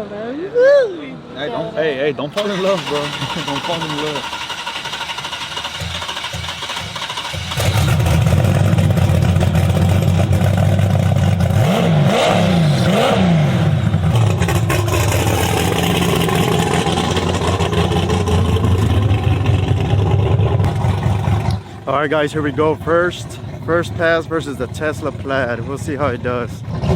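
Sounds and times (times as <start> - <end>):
large piston engine idling and revving: 2.3 - 26.9.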